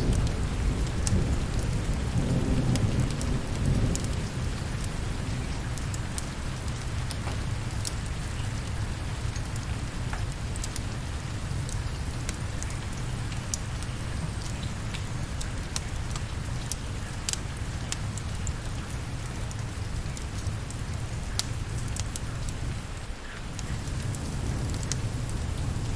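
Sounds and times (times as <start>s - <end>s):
sharp crackles and ticks: 0.0s - 25.9s
steady rain: 0.0s - 25.9s.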